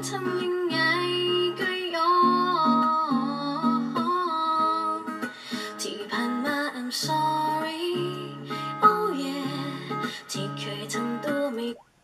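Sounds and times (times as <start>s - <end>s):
strummed guitar: 0.0s - 11.7s
woman singing: 0.0s - 11.9s.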